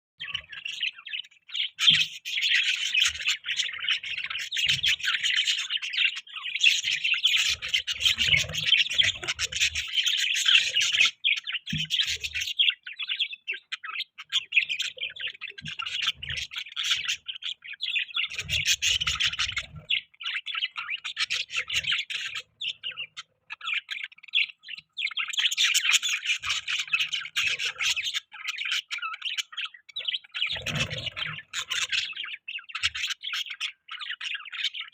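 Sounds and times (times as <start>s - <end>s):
budgerigars chirping and chattering: 0.2s - 34.9s.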